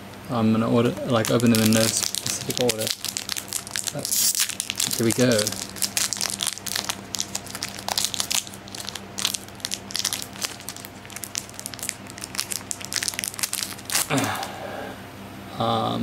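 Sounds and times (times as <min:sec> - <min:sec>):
foil wrapper tearing and crinkling: 0:01.1 - 0:14.5.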